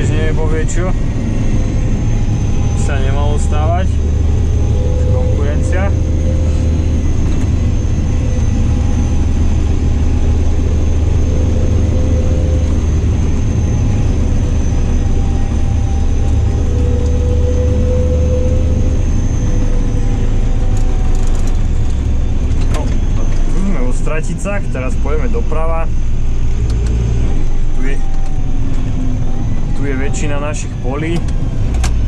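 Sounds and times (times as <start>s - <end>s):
faint high whine: 0.0s - 31.7s
tractor diesel engine humming: 0.0s - 32.0s.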